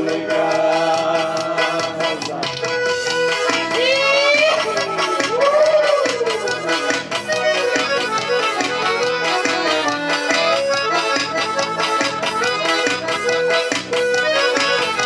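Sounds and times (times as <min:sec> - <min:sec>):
accordion melody: 0:00.0 - 0:15.0
steady percussion beat: 0:00.0 - 0:15.0.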